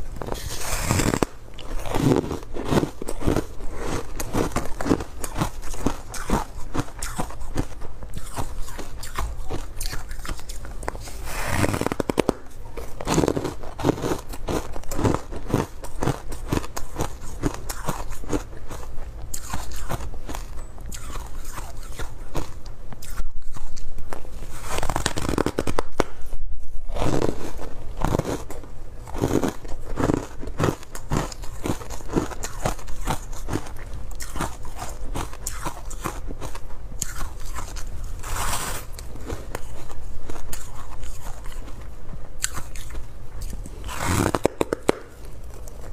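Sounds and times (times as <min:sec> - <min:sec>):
biting and chewing ice: 0:00.1 - 0:23.9, 0:26.9 - 0:45.9.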